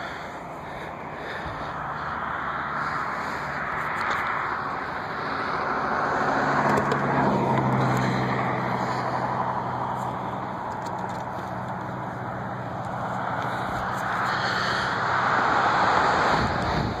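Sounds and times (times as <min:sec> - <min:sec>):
passing vehicle engine: 0:00.0 - 0:17.0.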